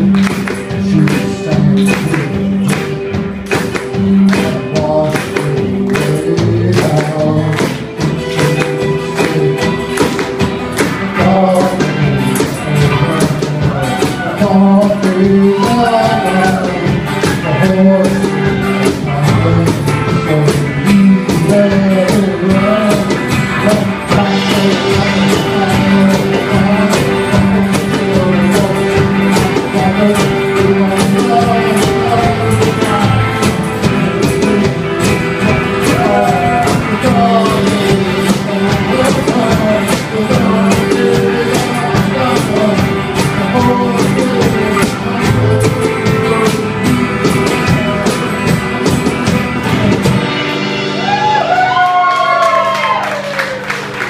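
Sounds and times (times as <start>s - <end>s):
driving percussion beat: 0.0s - 54.0s
pop backing band: 0.0s - 54.0s.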